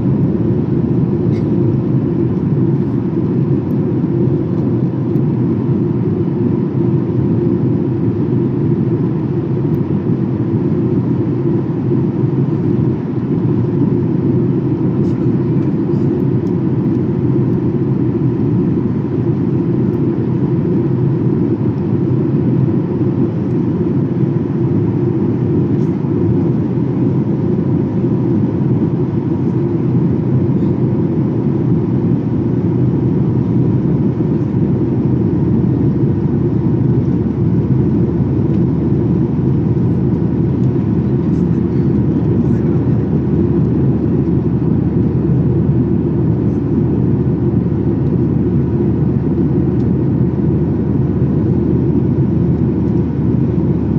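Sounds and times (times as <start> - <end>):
faint steady hum: 0.0 - 53.9
jet engines droning: 0.0 - 53.9.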